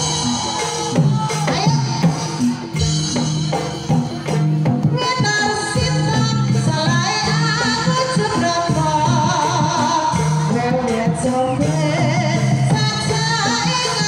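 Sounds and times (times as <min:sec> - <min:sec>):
woman singing: 0:00.0 - 0:03.2, 0:04.8 - 0:14.0
hand drums driving rhythm: 0:00.0 - 0:14.0.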